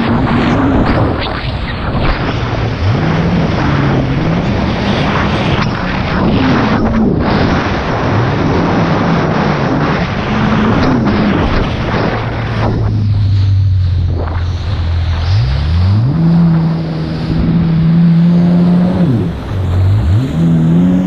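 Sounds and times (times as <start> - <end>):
jet ski engine running: 0.0 - 21.0
rush of wind and water spray: 0.0 - 21.0.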